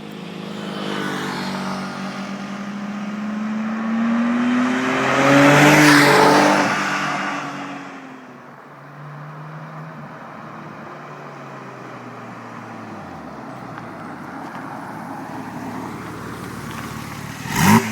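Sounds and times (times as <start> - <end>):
car engine revving: 0.2 - 17.9.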